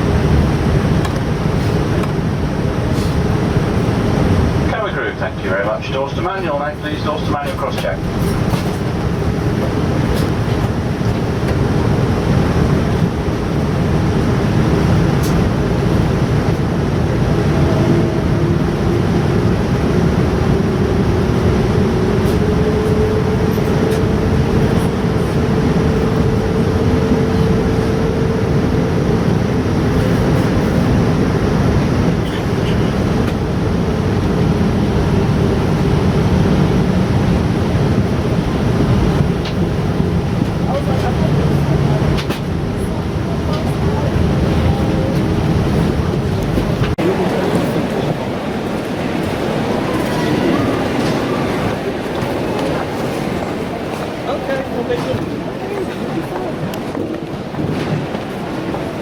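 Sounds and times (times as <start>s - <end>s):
airliner cabin noise: 0.0s - 59.0s.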